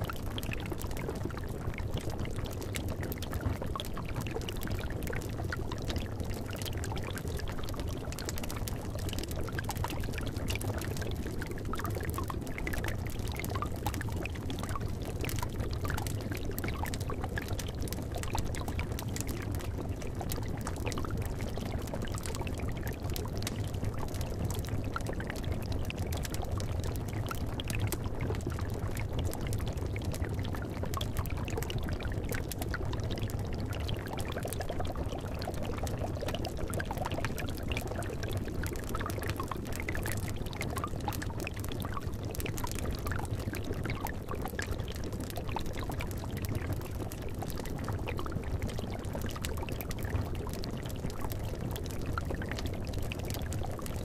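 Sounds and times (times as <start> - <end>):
liquid bubbling in a cauldron: 0.0 - 54.0.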